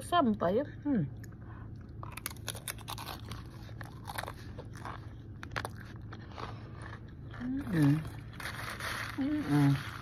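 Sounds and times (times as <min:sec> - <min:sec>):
crunchy food being chewed: 0:01.2 - 0:10.0.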